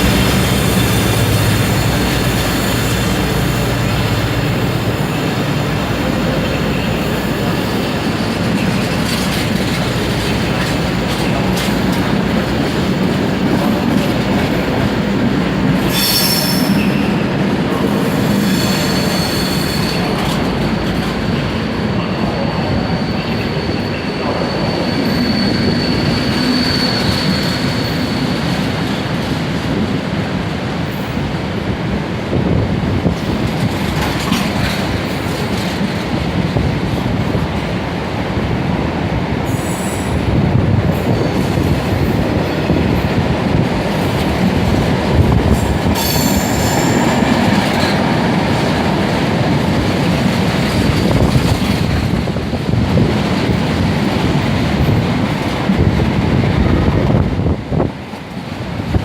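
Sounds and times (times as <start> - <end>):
train wheels squealing on rails: 0.0 - 29.5, 39.4 - 59.0.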